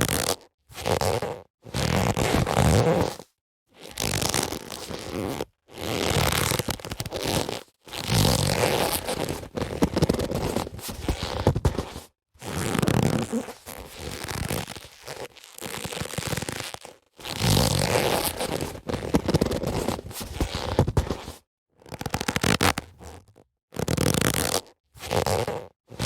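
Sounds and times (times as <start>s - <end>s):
boxing gloves rubbing: 0.1s - 3.2s, 3.8s - 25.7s.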